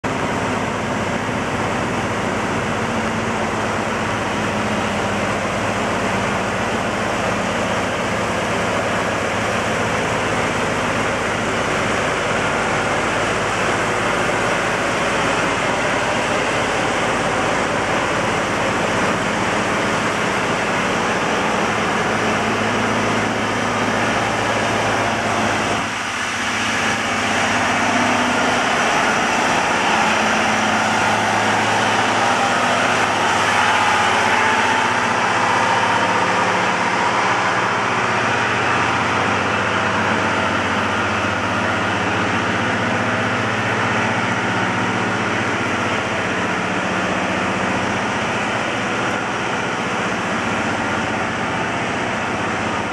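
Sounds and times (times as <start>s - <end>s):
locomotive engine hum: 0.0s - 52.9s.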